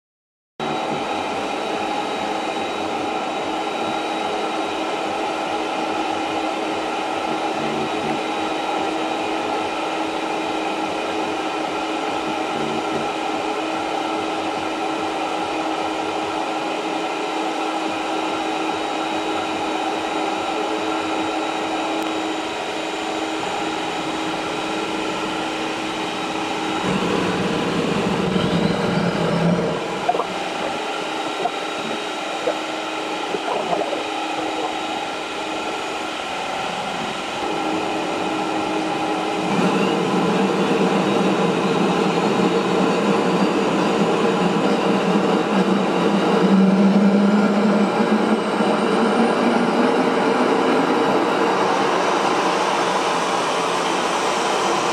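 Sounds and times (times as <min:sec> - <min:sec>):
small jet engine spinning: 0:00.6 - 0:54.9.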